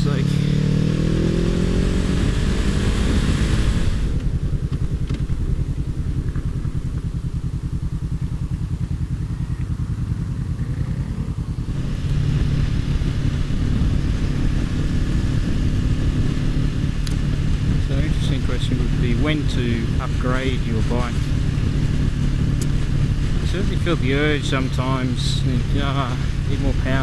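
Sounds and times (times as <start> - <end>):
motorcycle engine revving: 0.0 - 27.0
rush of wind: 0.4 - 27.0.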